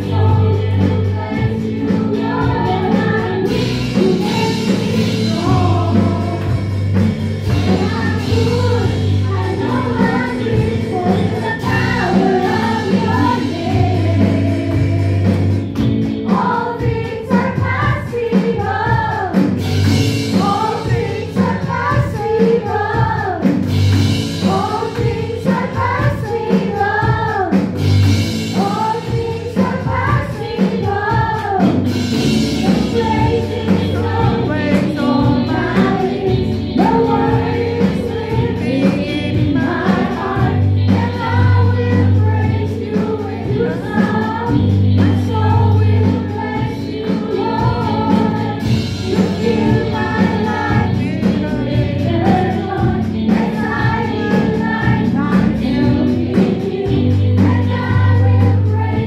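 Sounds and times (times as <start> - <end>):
woman singing: 0.0 - 6.8, 7.5 - 15.5, 16.3 - 19.6, 20.4 - 23.6, 28.6 - 31.9, 32.6 - 59.0
band with drums playing: 0.0 - 59.0
congregation singing: 0.0 - 59.0.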